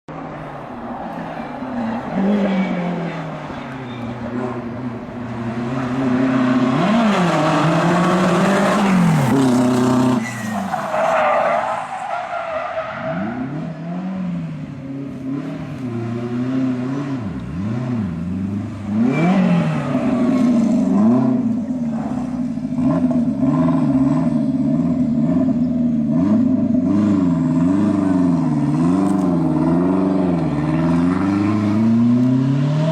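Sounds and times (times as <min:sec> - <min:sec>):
tyres skidding: 0:00.1 - 0:32.9
rally car engine revving: 0:00.2 - 0:32.9.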